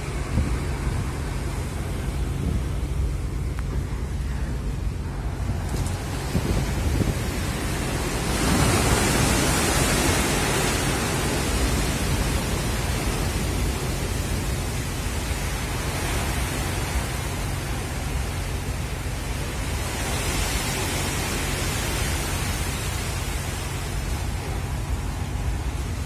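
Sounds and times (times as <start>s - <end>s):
heavy sea rushing against ship: 0.0s - 26.0s
low steady rumble: 0.0s - 26.0s
wind on microphone: 0.0s - 26.0s
wave breaking with spray: 4.8s - 26.0s.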